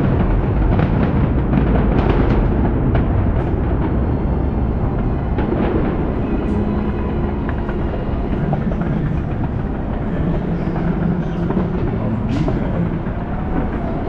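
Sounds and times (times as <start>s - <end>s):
crowd voices: 0.0s - 14.0s
fireworks crackling and banging: 0.0s - 14.0s.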